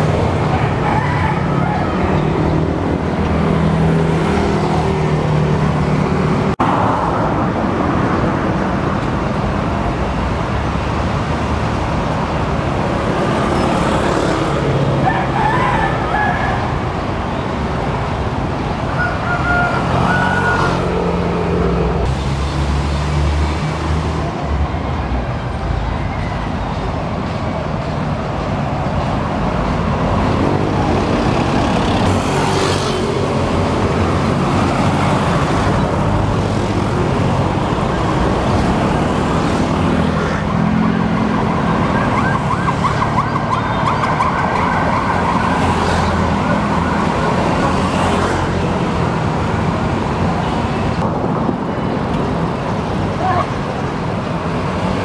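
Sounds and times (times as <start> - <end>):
city road traffic: 0.0 - 55.0.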